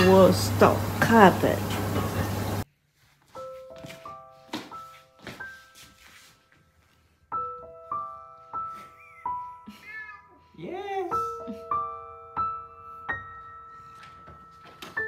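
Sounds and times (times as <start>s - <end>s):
gentle piano music: 0.0s - 2.7s, 3.3s - 15.0s.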